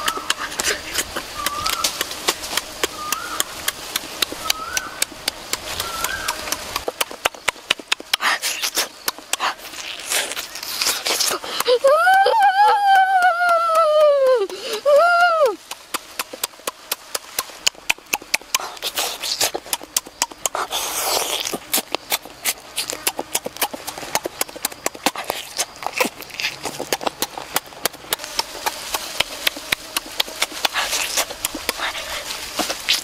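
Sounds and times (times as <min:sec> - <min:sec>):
child chewing and smacking lips: 0:00.0 - 0:33.0.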